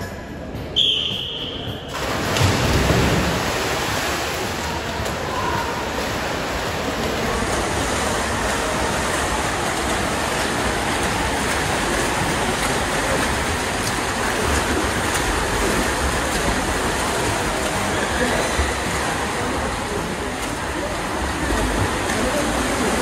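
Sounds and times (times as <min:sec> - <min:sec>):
water splashed by swimmers: 0:01.9 - 0:23.0.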